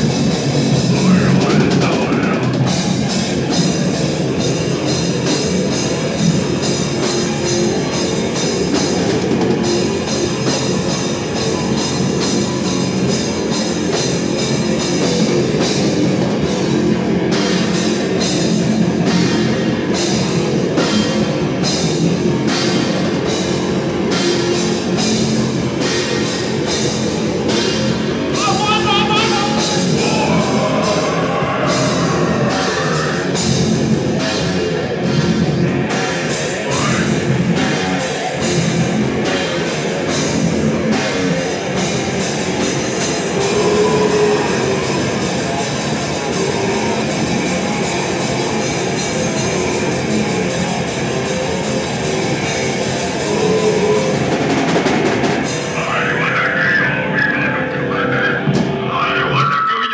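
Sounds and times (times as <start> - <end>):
drum kit: 0.0 - 56.4
bass guitar: 0.0 - 59.9
distorted electric guitar: 0.0 - 59.9.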